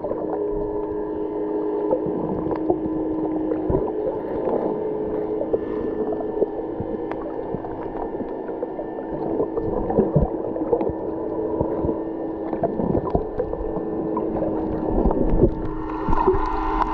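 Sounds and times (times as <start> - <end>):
underwater clicks and crackles: 0.0 - 1.2, 1.8 - 16.9
underwater low hum: 0.0 - 16.9.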